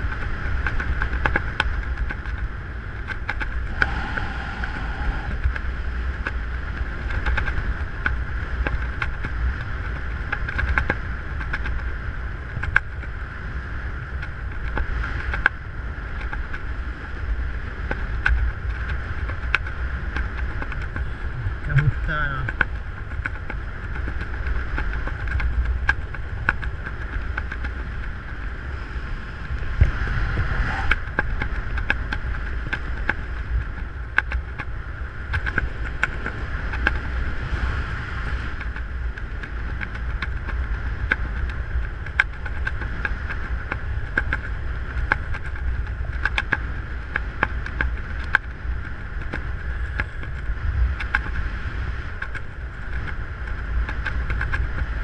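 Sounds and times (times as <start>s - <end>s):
small clicks and ticks: 0.0s - 55.0s
wind buffeting microphone: 0.0s - 55.0s.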